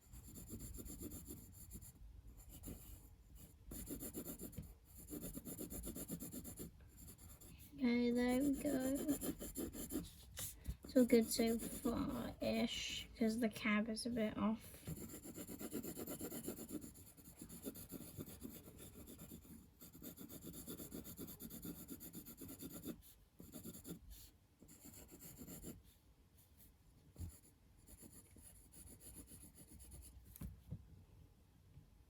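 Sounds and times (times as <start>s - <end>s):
pencil strokes scratching on paper: 0.0s - 13.4s, 14.6s - 26.0s, 26.6s - 30.4s.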